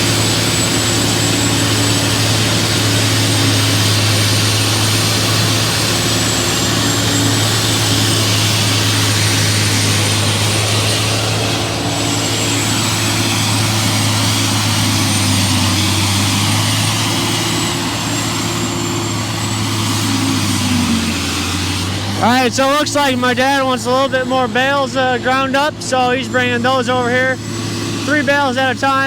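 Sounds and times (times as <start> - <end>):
faint high whine: 0.0 - 29.0
tub grinder engine humming: 0.0 - 29.0.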